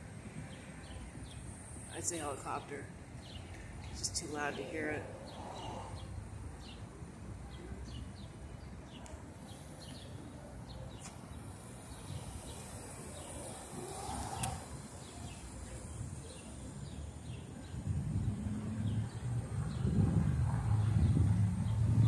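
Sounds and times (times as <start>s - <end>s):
low rumble of street traffic: 0.0s - 22.0s
small birds chirping: 0.4s - 21.8s.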